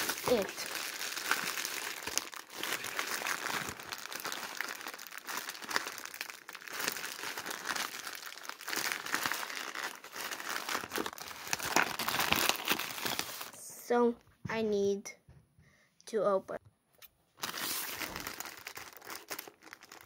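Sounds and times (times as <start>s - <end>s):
plastic bag crinkling: 0.0s - 13.6s, 17.4s - 20.0s.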